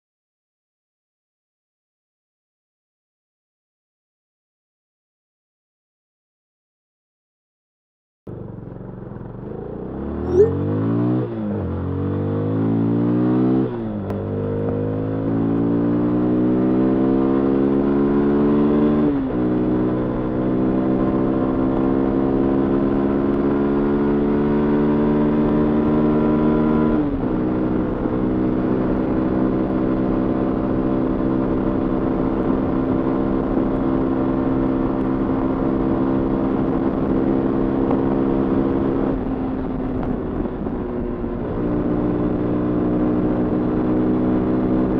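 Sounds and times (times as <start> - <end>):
motorcycle engine accelerating: 8.3 - 44.9.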